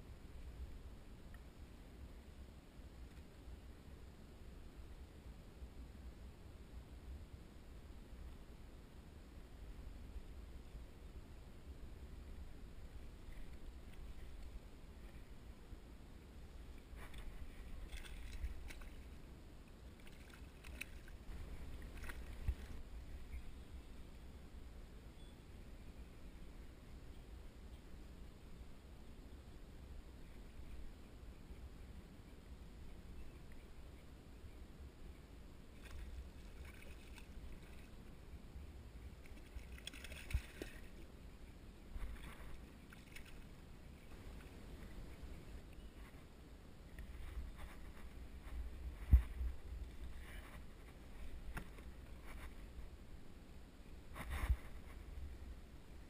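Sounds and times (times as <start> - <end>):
faint low rumble: 0.0 - 56.0.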